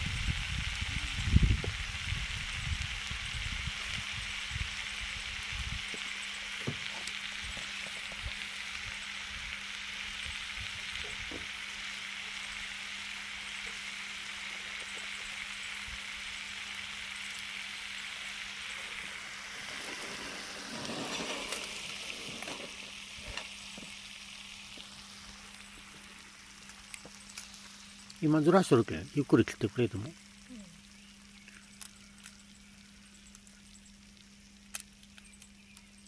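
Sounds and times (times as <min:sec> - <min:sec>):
food sizzling on hot pan: 0:00.0 - 0:36.0.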